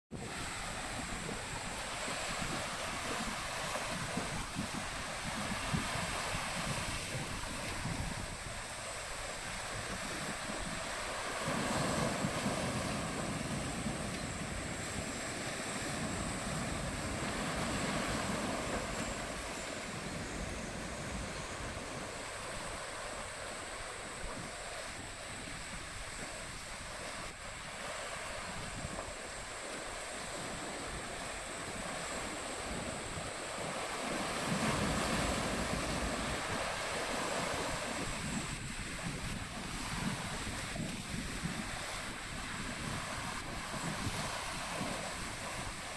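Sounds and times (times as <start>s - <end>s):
waves washing: 0.1s - 45.9s
wind buffeting microphone: 0.1s - 45.9s.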